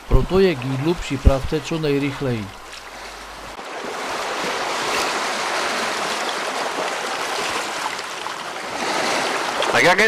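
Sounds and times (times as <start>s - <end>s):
waves washing along shore: 0.0s - 10.0s.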